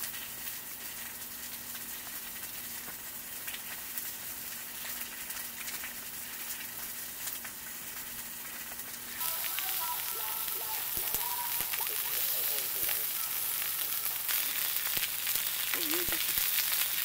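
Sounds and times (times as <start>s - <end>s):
food sizzling and frying: 0.0s - 17.0s.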